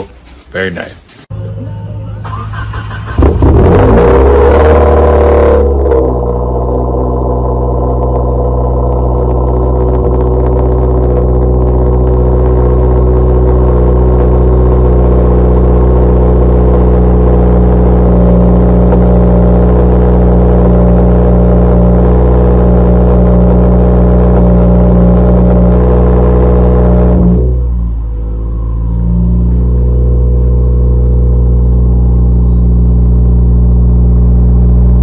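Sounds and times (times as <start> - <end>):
car engine running: 1.3 - 35.0.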